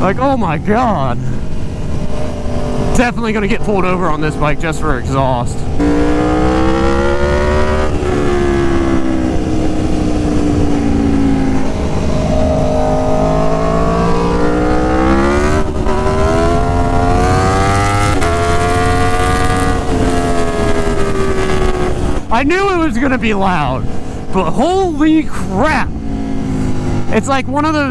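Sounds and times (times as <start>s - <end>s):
motorcycle engine accelerating: 0.0s - 27.9s
quick gear upshifts: 0.0s - 27.9s.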